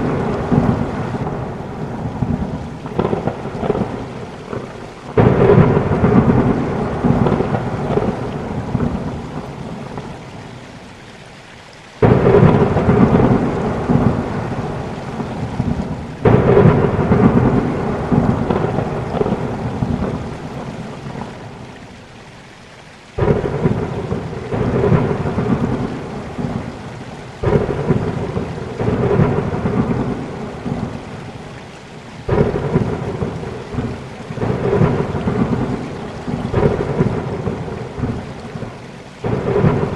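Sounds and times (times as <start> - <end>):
thunder rumbling: 0.0 - 10.7, 12.0 - 21.8, 23.2 - 31.4, 32.3 - 39.9
rain: 0.0 - 39.9.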